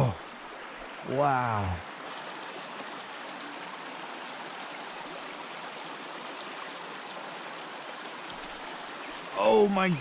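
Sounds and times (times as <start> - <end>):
stream flowing: 0.0 - 10.0.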